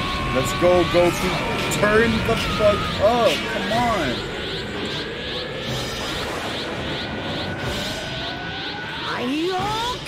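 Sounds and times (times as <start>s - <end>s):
thin rising whine: 0.0s - 10.0s.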